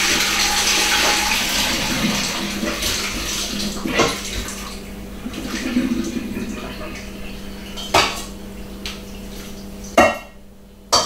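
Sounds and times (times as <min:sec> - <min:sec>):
water pouring into colander: 0:00.0 - 0:09.9.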